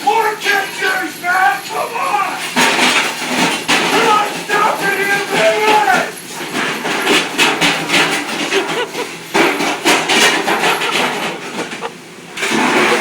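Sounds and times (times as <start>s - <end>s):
dishes clattering: 2.4s - 13.0s.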